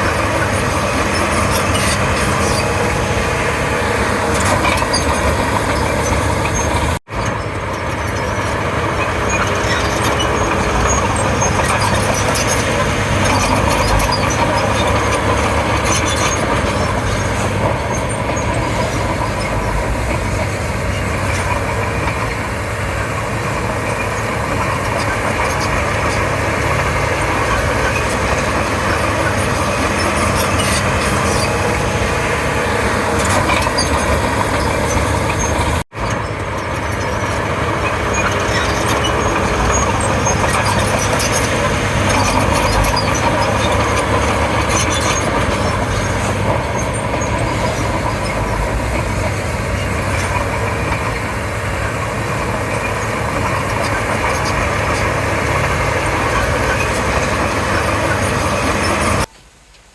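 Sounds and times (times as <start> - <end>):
bulldozer diesel engine running: 0.0 - 59.3.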